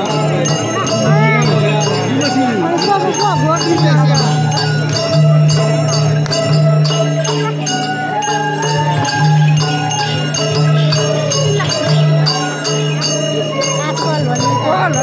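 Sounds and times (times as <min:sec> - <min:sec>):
drums beating: 0:00.0 - 0:15.0
jingling bells: 0:00.0 - 0:15.0.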